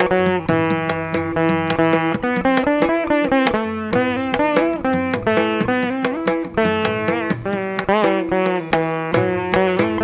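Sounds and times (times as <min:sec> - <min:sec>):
plucked string instrument melody: 0:00.0 - 0:10.0.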